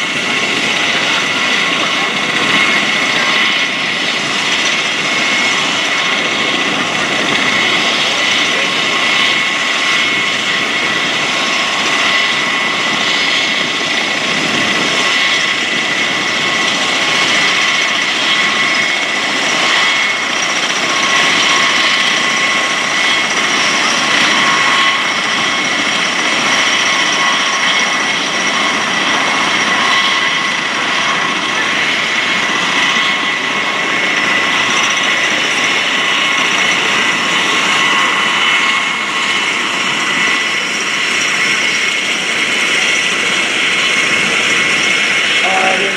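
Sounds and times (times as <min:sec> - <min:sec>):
turboshaft engines running: 0:00.0 - 0:45.9.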